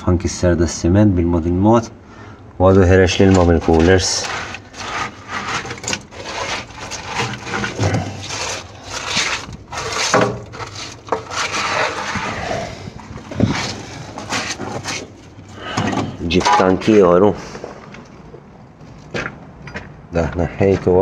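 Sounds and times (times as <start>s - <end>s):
rubble scraping and knocking: 2.7s - 19.9s.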